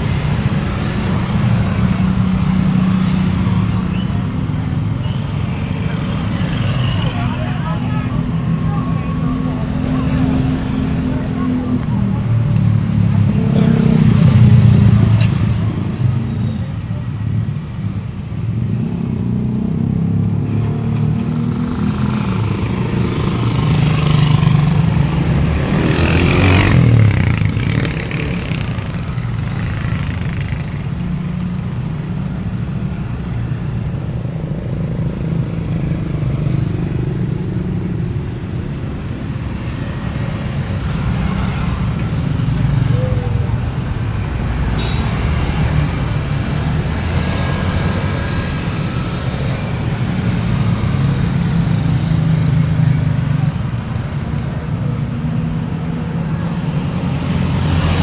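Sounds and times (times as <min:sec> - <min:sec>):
engine and tyre rumble: 0:00.0 - 0:58.0
vehicles passing: 0:00.0 - 0:58.0.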